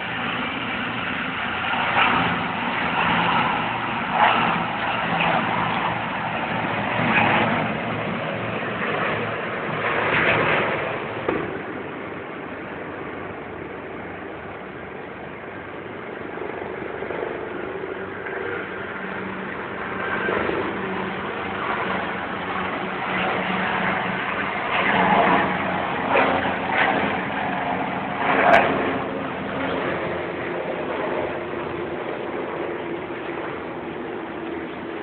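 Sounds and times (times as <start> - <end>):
helicopter turbine and rotor: 0.0 - 35.0.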